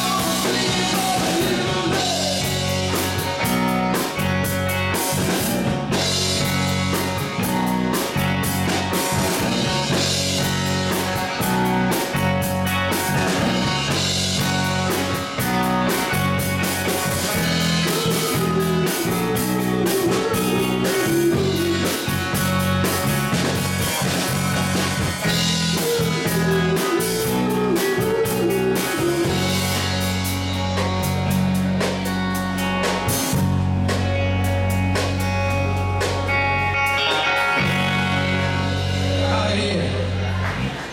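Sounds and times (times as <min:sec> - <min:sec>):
drum kit: 0:00.0 - 0:40.9
electric bass: 0:00.0 - 0:40.9
electric guitars: 0:00.0 - 0:40.9.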